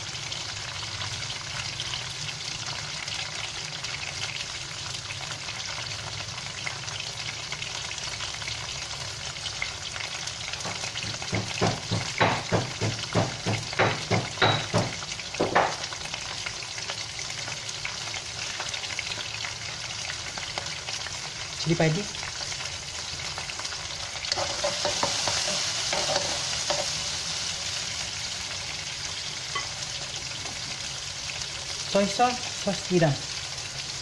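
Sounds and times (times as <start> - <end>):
prawns sizzling in oil: 0.0 - 34.0.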